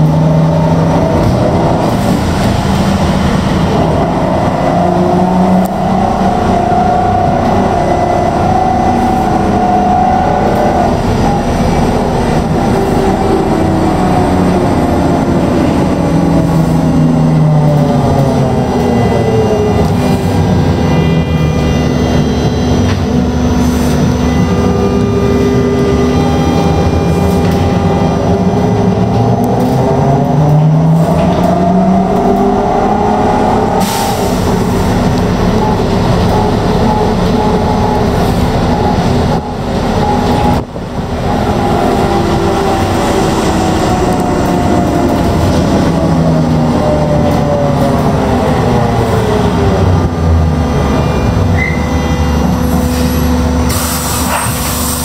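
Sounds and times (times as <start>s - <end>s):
electric traction drive whine: 0.0s - 55.0s.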